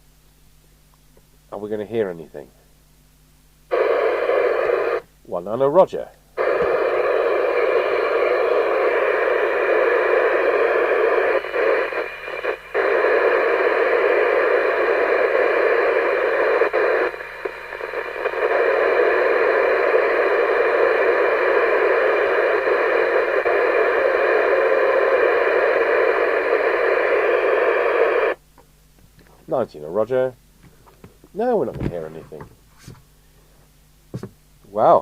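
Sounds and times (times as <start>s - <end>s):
radio static hiss from loudspeaker: 0.0s - 35.0s.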